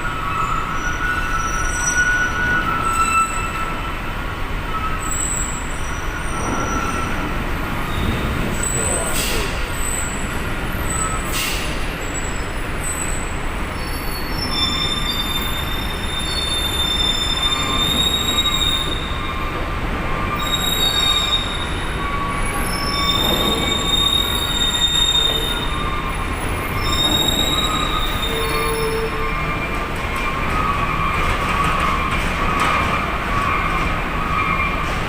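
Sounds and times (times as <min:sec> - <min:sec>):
high-pitched metallic squeals: 0:00.0 - 0:35.0.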